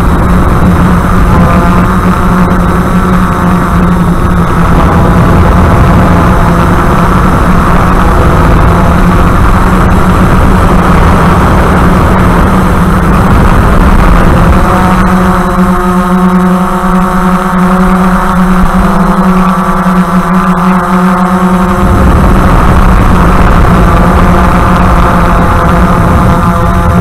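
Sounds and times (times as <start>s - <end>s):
drone motors and propellers: 0.0s - 27.0s.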